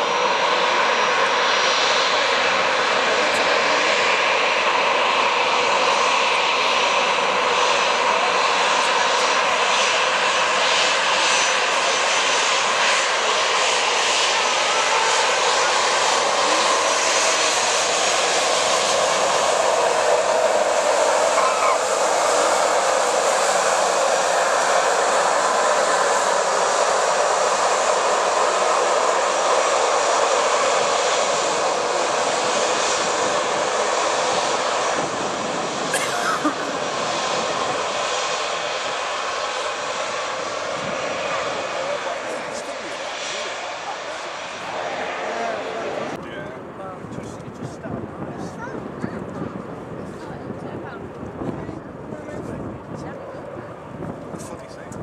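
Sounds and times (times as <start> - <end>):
jet engines at taxi power: 0.0 - 55.0.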